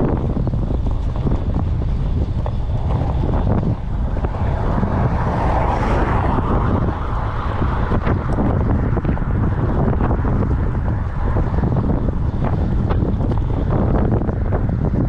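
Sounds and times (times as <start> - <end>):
road noise: 0.0 - 15.0
rushing noise: 0.0 - 15.0
wind buffeting microphone: 0.0 - 15.0.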